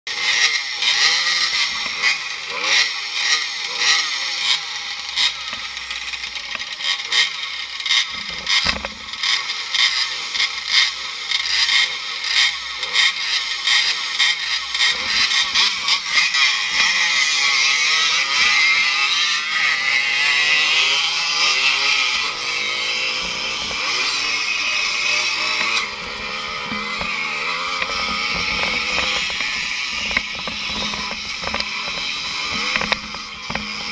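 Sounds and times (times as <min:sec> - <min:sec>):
two-stroke motorcycle engines revving: 0:00.0 - 0:33.9.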